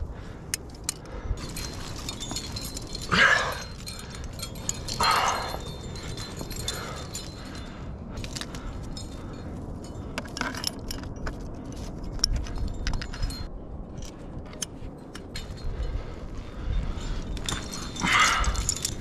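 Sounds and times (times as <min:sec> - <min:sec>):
climbing gear clinking: 0:00.2 - 0:19.0.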